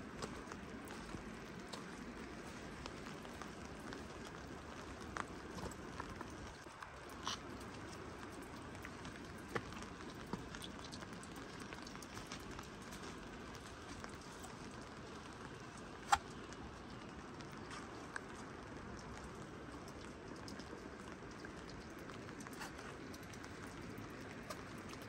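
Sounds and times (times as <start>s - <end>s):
light rain: 0.0s - 25.0s.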